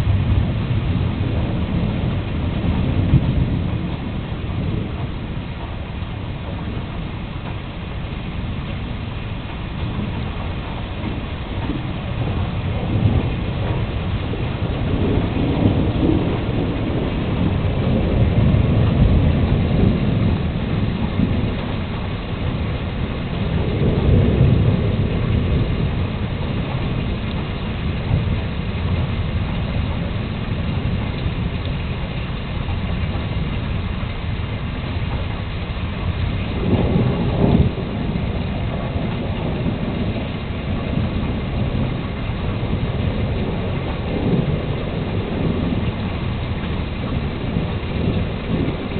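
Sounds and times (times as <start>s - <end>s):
rolling thunder: 0.0s - 48.9s
steady rain: 0.0s - 48.9s.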